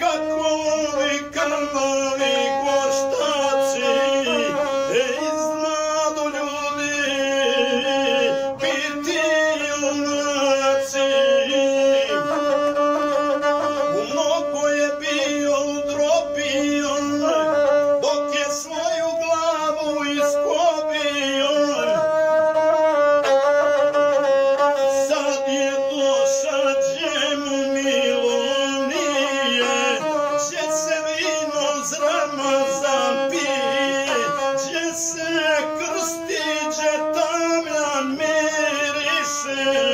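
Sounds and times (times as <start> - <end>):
bowed folk fiddle melody: 0.0 - 39.9
man singing: 0.0 - 39.9.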